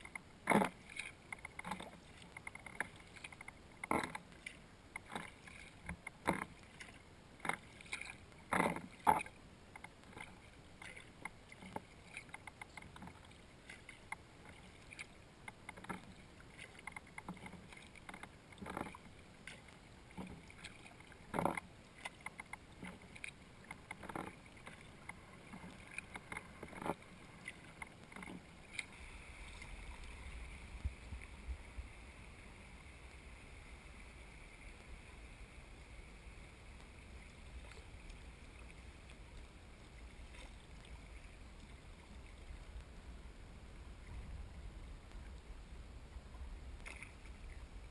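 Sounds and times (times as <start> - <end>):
kayak paddle splashing: 0.0 - 47.9
quiet flowing water: 0.0 - 47.9
rushing fast water: 0.0 - 47.9.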